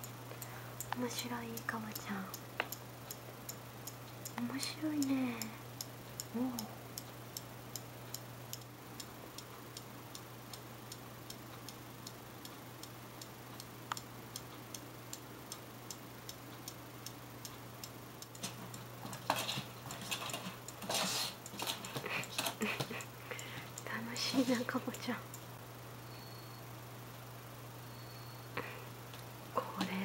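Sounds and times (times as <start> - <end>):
steady ticking: 0.0 - 25.6.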